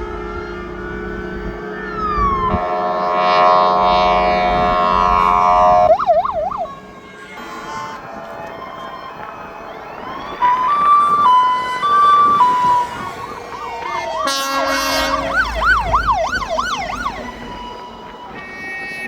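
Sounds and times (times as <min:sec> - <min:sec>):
engine rumble: 0:00.0 - 0:19.0
fire engine horn blast: 0:00.0 - 0:19.0
wailing siren: 0:00.0 - 0:19.0
yelping siren sweeps: 0:00.1 - 0:19.0.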